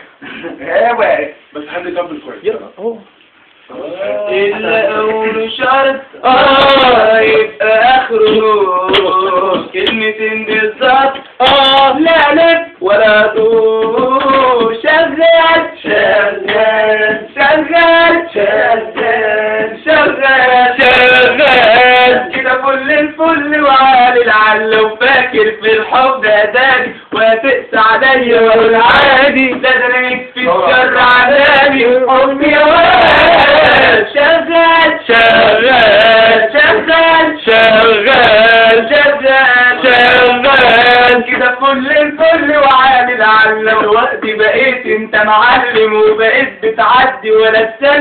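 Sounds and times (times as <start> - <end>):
man singing loudly: 4.0 - 48.0.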